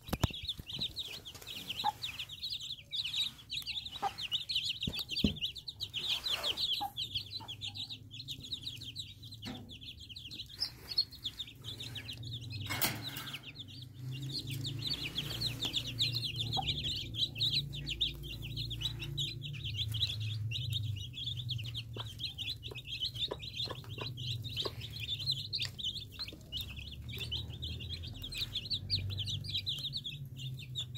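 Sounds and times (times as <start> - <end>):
chicks peeping: 0.0 - 30.9.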